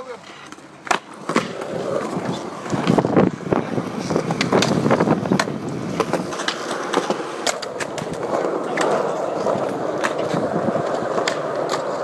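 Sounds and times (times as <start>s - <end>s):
skateboard clacks: 0.0s - 12.0s
skateboard wheels rolling on concrete: 0.0s - 12.0s
skateboard grinding on ledge: 0.8s - 12.0s.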